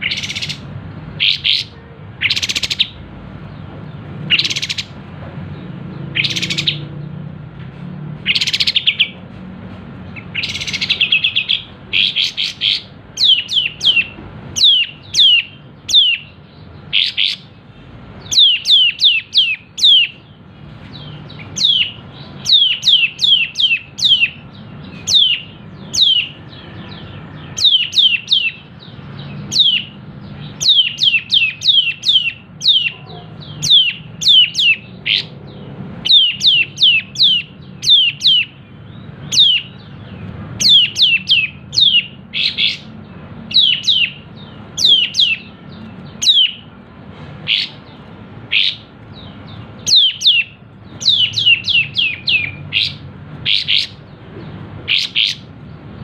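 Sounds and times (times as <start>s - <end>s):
bulbul singing: 0.0s - 7.5s, 8.2s - 9.3s, 10.0s - 56.0s
harsh rasping bird notes: 8.2s - 38.6s, 39.2s - 55.6s.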